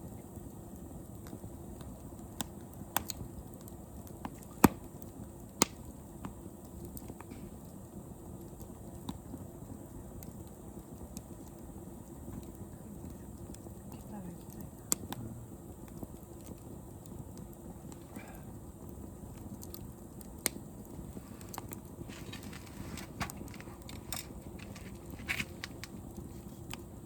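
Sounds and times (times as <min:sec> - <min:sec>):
fire pops and snaps: 0:00.0 - 0:27.0
hiss of burning: 0:00.0 - 0:27.0.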